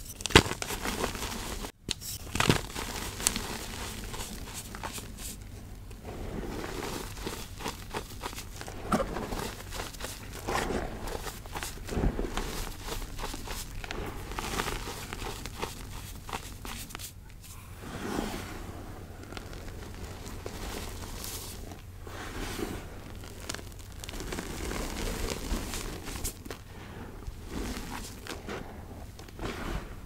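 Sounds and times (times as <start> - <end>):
hands crunching chalk powder: 0.0 - 17.6, 18.2 - 29.8.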